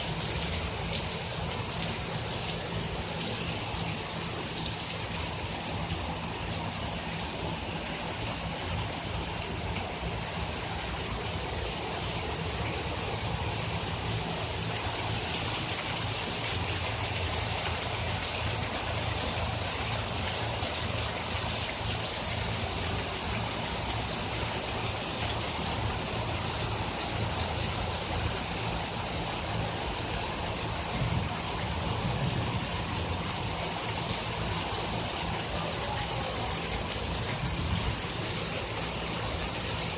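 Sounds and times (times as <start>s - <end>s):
heavy rain pouring: 0.0s - 39.9s
water rushing: 0.0s - 39.9s.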